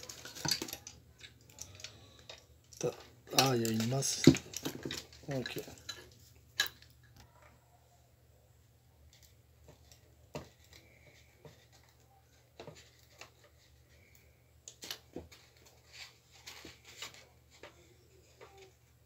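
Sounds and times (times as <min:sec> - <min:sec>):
wires and plastic connectors rustling: 0:00.0 - 0:07.6, 0:09.0 - 0:19.0.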